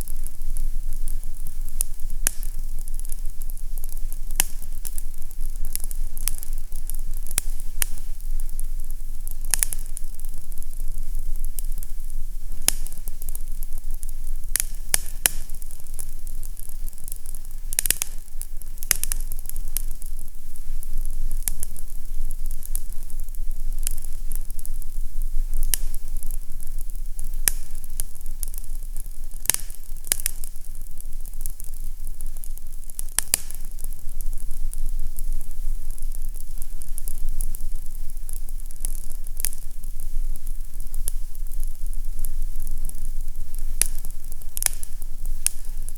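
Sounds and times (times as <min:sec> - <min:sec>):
fireplace fire crackling: 0:00.0 - 0:45.9.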